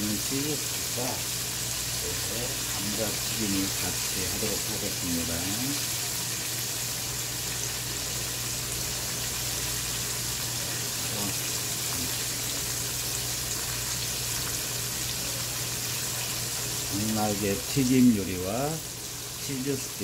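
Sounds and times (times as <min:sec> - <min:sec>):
hot oil sizzling and bubbling: 0:00.0 - 0:20.0.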